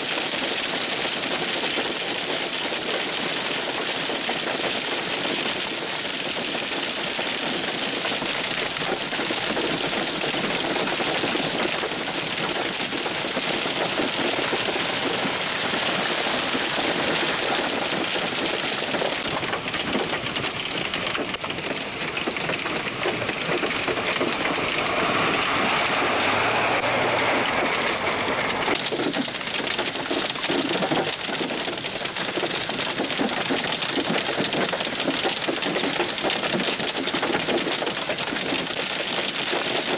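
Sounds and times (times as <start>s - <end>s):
hail clattering on pavement and cars: 0.0s - 39.9s.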